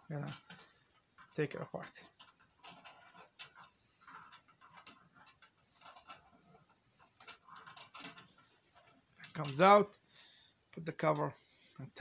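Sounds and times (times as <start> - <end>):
metal parts clicking and scraping: 0.0 - 9.8.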